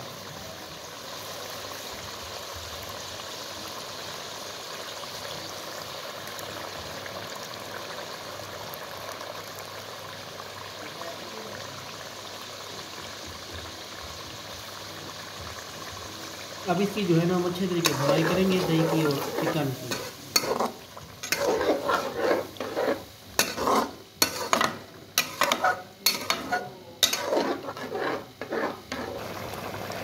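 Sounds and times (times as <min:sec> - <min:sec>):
gravy bubbling and hissing: 0:00.0 - 0:30.0.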